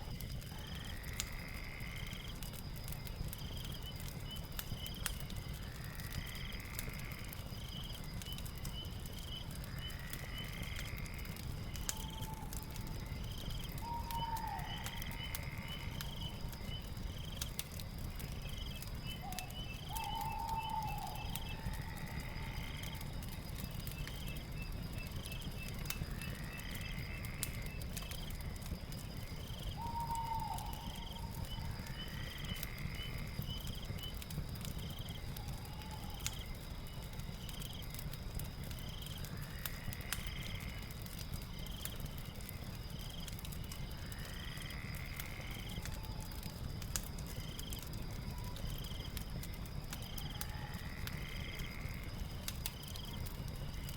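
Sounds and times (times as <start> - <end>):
fire crackling: 0.0 - 53.9
insect trill: 0.0 - 53.9.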